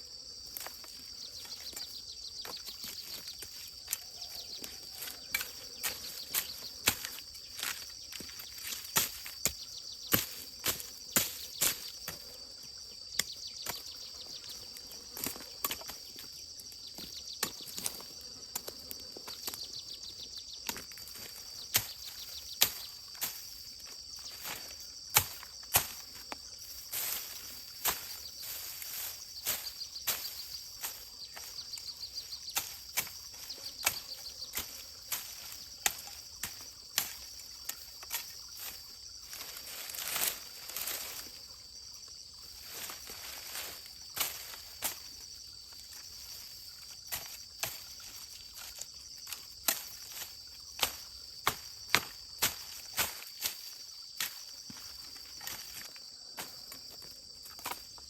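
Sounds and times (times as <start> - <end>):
high-pitched insect trilling: 0.0 - 57.8.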